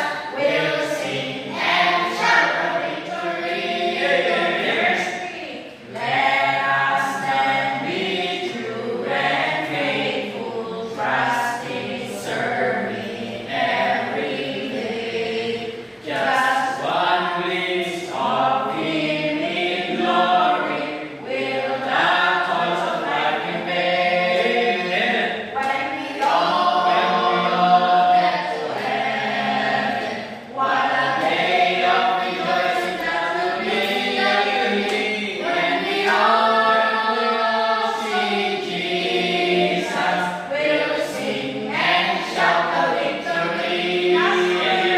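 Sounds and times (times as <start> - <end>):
amplified karaoke singing: 0.0 - 44.9.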